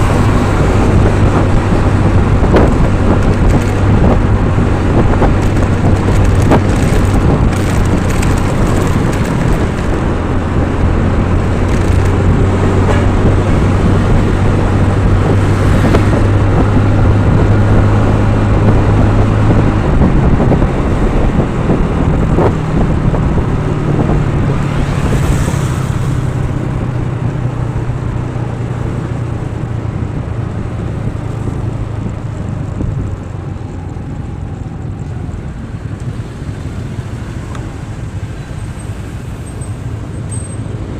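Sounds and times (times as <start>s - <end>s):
vehicle engine running: 0.0s - 40.9s
wind noise on microphone: 0.0s - 40.9s.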